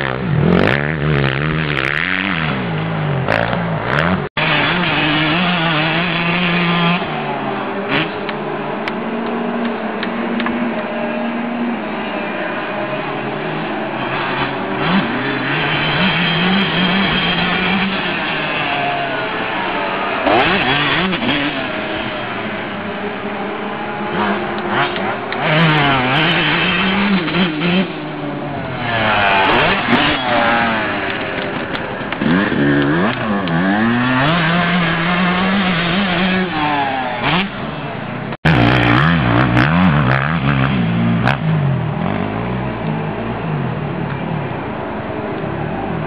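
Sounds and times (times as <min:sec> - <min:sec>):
motocross bike engines revving: 0:00.0 - 0:46.0.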